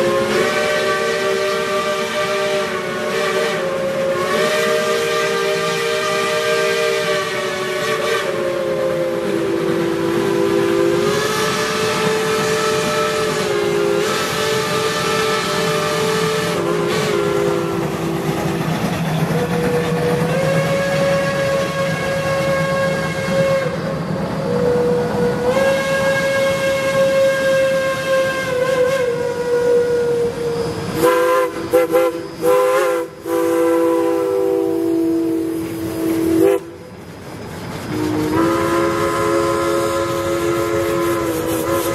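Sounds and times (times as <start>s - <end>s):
steam hissing: 0.0s - 41.9s
steam locomotive whistles: 0.0s - 41.9s.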